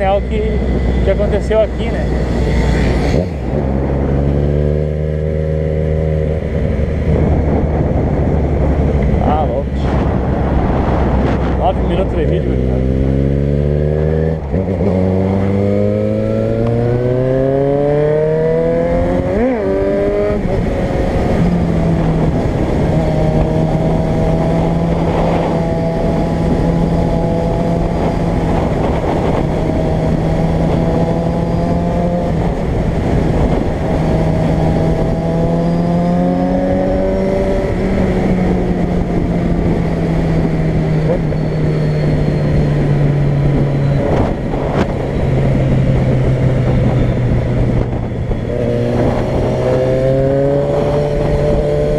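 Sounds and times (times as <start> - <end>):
car engine accelerating: 0.0 - 51.9
road noise: 0.0 - 51.9.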